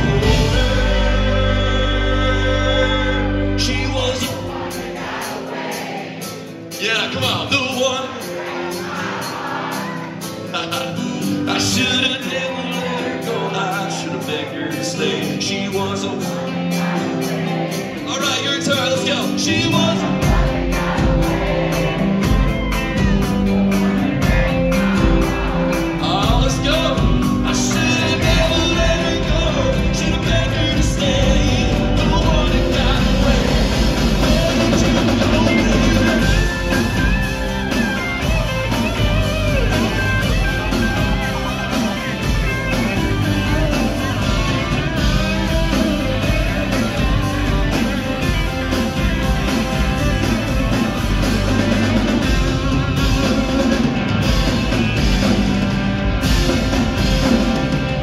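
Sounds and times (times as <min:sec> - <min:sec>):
acoustic guitar: 0:00.0 - 0:58.0
live country band playing: 0:00.0 - 0:58.0.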